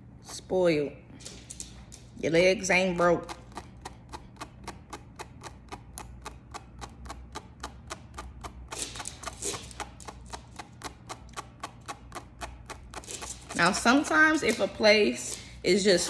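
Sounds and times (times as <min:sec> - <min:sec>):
tweezers clicking: 0:01.9 - 0:16.0.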